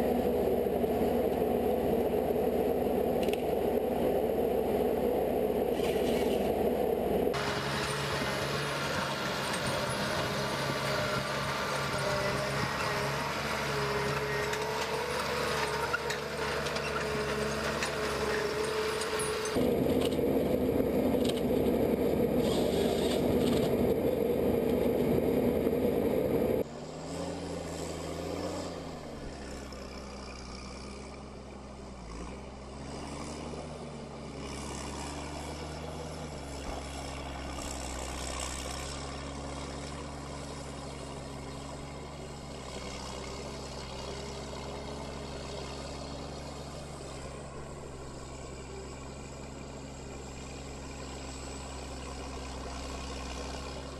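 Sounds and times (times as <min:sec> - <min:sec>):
heavy engine running: 0:00.0 - 0:53.9.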